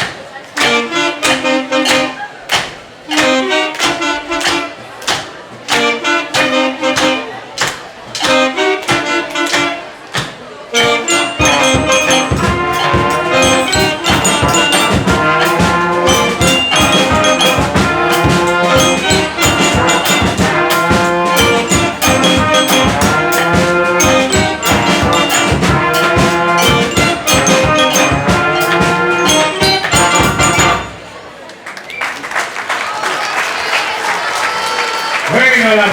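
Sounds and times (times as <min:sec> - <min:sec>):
school band playing brass: 0:00.0 - 0:31.4.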